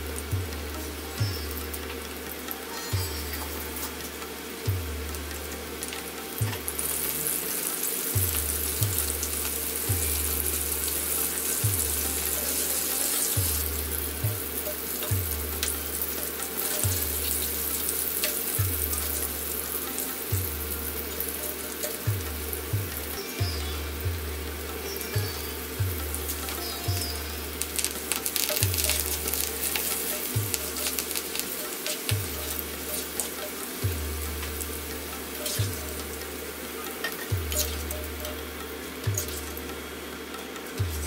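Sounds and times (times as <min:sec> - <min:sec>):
background music with bass beat: 0:00.0 - 0:41.0
prawns deep-frying in oil: 0:00.0 - 0:41.0.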